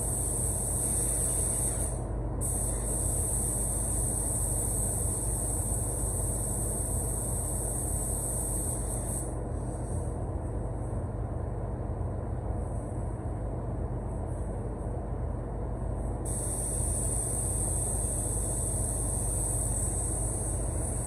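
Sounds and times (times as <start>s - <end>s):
ventilation fan roar: 0.0s - 21.0s.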